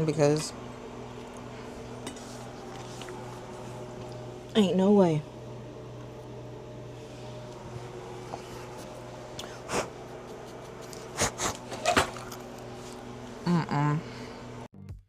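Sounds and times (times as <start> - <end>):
low machine hum: 0.0 - 14.7.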